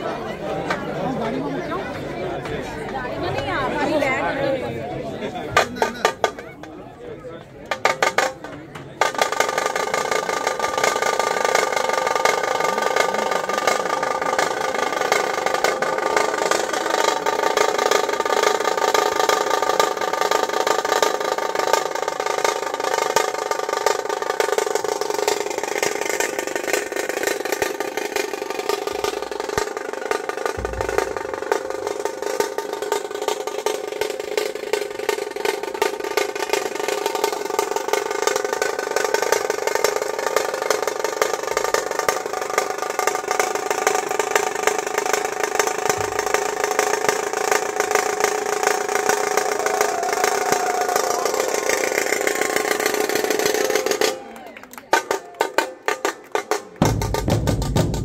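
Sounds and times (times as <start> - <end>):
fast drumming on barrel drums: 5.6 - 6.5, 7.7 - 54.2, 54.9 - 58.0
kettle drum beaten with sticks: 7.7 - 23.0, 23.7 - 54.0, 54.9 - 58.0.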